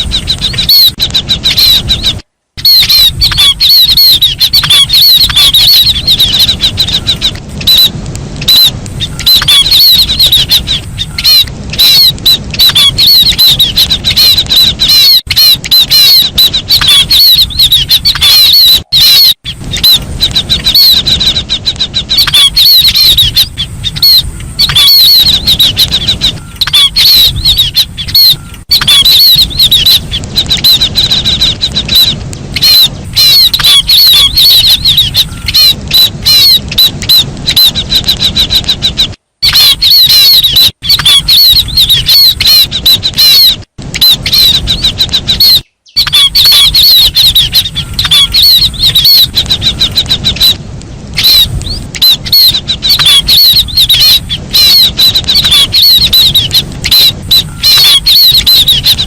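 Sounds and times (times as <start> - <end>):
high-pitched bird chirping calls: 0.0 - 59.0
low rumble of noise: 0.0 - 59.0.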